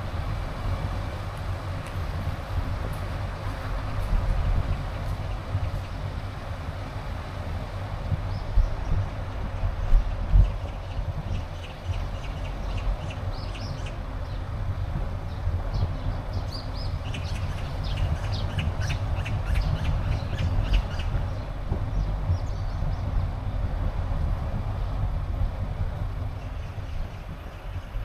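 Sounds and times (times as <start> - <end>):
car engine low rumble: 0.0 - 28.0.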